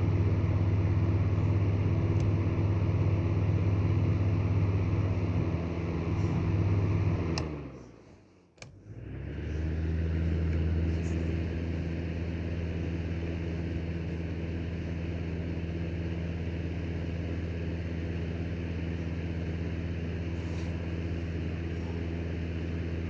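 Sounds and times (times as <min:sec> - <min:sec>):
fan heater motor humming: 0:00.0 - 0:23.0
fan winding down: 0:00.0 - 0:23.0.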